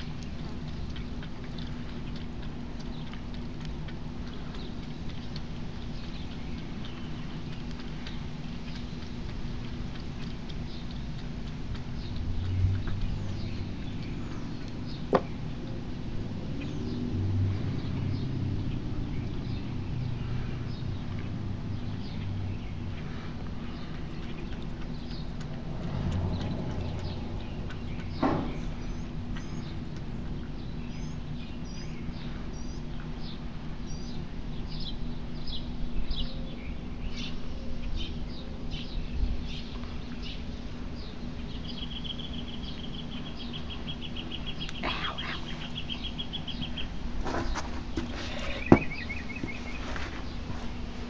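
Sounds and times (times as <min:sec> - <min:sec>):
songbirds chirping and trilling: 0:00.0 - 0:51.0
steady low hum: 0:00.0 - 0:51.0.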